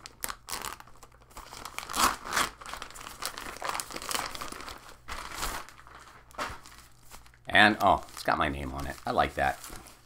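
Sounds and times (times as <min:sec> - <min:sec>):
plastic bag crinkling and tearing: 0:00.0 - 0:10.0.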